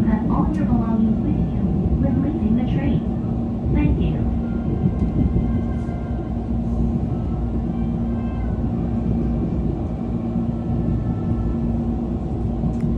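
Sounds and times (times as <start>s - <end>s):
passenger train rumbling: 0.0s - 12.9s.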